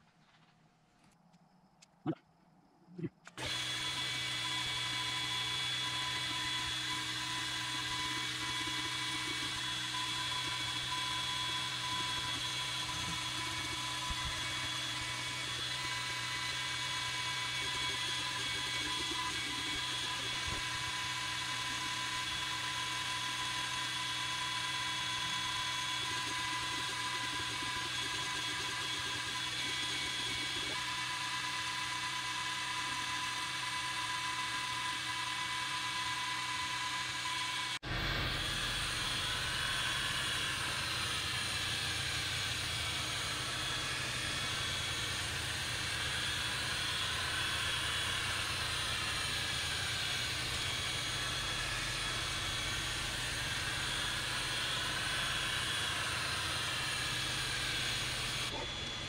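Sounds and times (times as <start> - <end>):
laser engraver fans and motors whining: 3.3 - 59.0.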